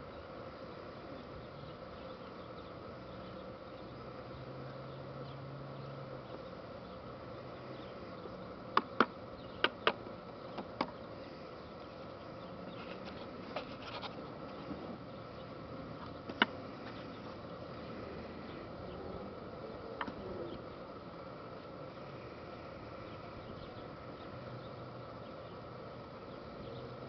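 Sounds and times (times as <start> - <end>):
faint hum: 0.0 - 27.0.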